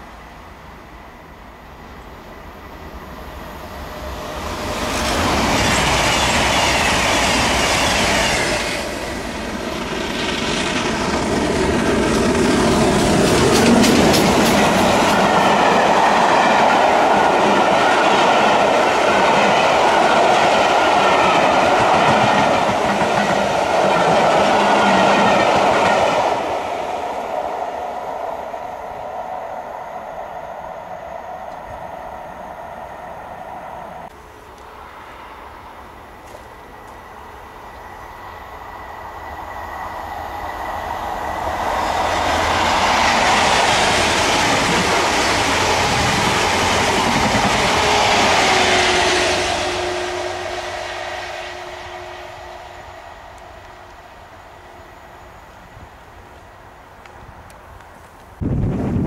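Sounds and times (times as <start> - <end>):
train passing on rails: 0.0 - 59.0.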